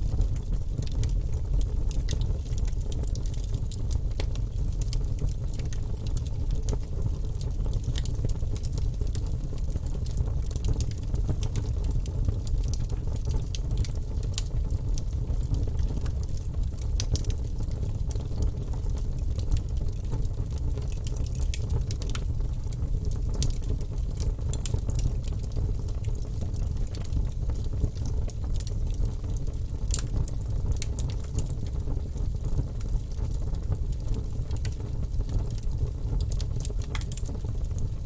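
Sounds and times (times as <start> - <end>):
low rumble of fire: 0.0 - 38.0
wood fire crackling and popping: 0.1 - 38.0.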